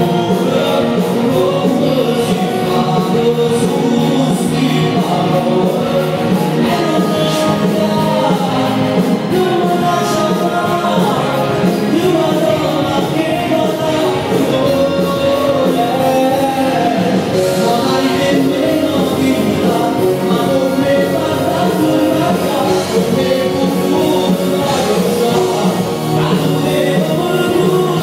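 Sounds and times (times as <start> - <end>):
pop song singing over backing: 0.0 - 28.0.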